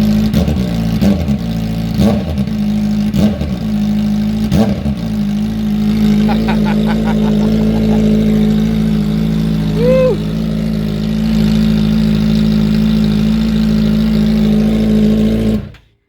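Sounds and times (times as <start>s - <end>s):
motorcycle engine idling loudly: 0.0s - 15.7s.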